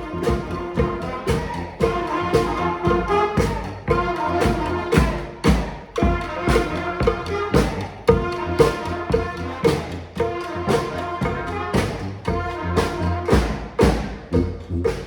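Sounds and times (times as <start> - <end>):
brass horns holding notes: 0.0 - 15.0
steady drum beat: 0.0 - 15.0.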